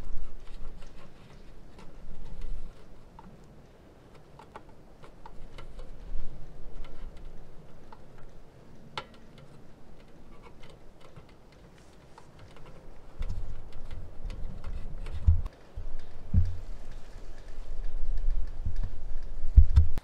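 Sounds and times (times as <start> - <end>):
hands clicking and tapping metal: 0.0 - 20.0.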